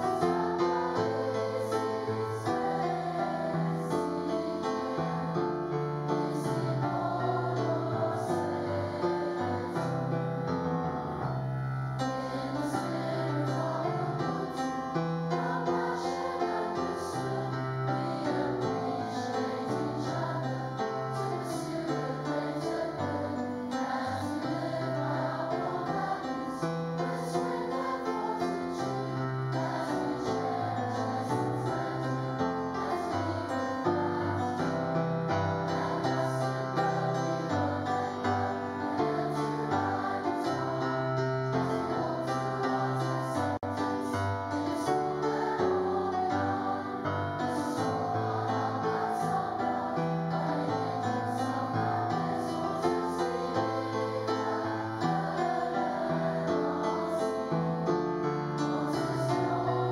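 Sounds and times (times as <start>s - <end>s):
group of voices singing: 0.0s - 10.3s, 12.0s - 59.9s
piano accompaniment: 0.0s - 59.9s.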